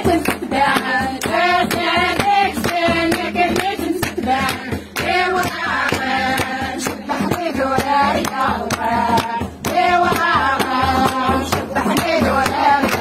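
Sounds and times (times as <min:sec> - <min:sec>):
percussive beat: 0:00.0 - 0:13.0
voices singing a chant: 0:00.0 - 0:13.0.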